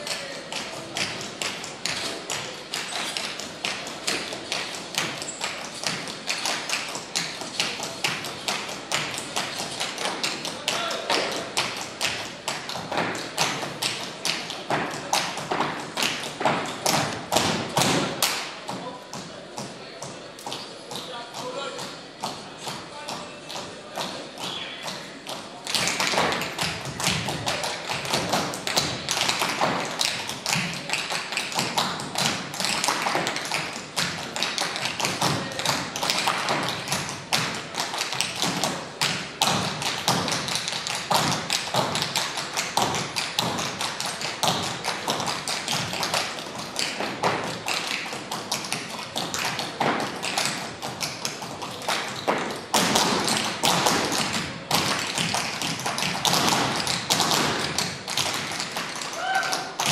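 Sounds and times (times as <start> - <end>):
tap shoes on wooden stage: 0.0 - 59.9.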